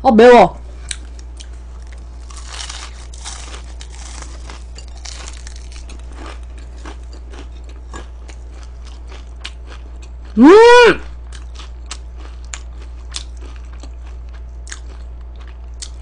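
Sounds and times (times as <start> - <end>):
steady low hum: 0.0 - 16.0
chewing crispy chicken: 0.8 - 16.0.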